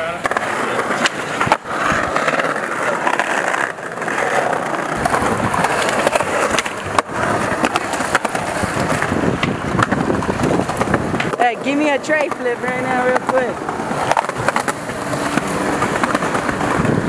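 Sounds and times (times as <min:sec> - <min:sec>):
skateboard clacks: 0:00.0 - 0:17.0
skateboard wheels rolling on pavement: 0:00.0 - 0:17.0.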